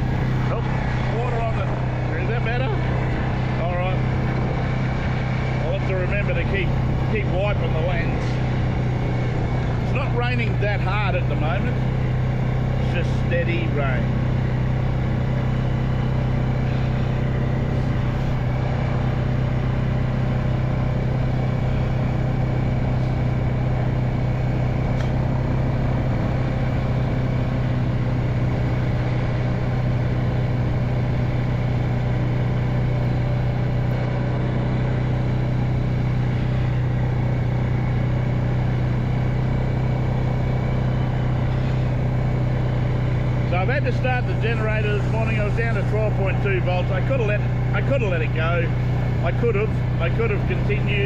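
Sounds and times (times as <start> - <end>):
quad bike engine running: 0.0 - 51.0.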